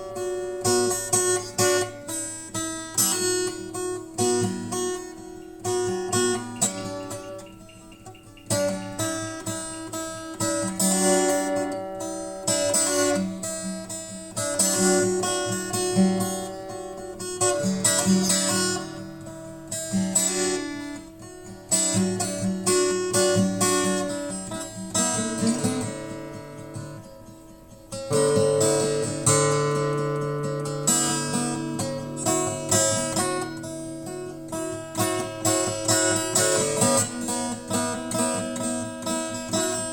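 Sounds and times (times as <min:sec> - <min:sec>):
acoustic guitar chords: 0:00.0 - 0:39.9.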